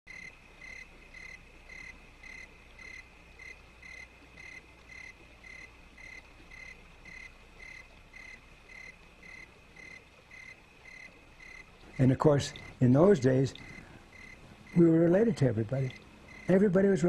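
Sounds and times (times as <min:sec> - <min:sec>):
crickets chirping: 0:00.1 - 0:17.0
steady high insect trill: 0:00.1 - 0:17.0.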